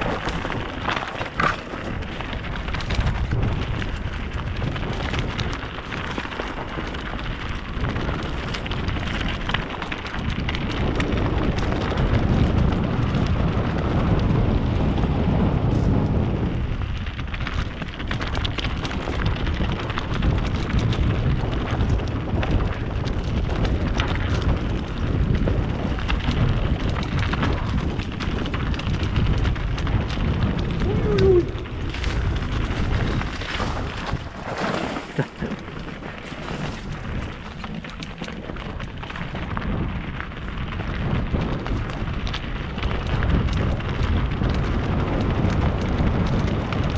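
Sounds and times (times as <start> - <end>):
bike rattling over bumps: 0.0 - 46.9
tyres rumbling on dirt: 0.0 - 46.9
wind buffeting microphone: 0.0 - 46.9.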